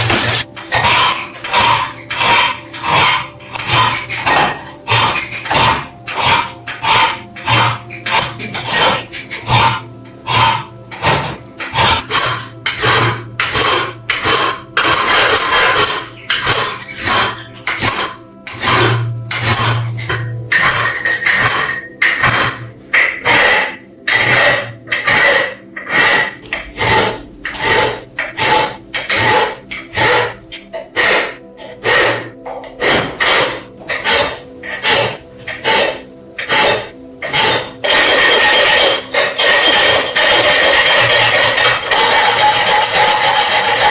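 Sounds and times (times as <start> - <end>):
rasping abrasive on rusted metal: 0.0 - 43.9.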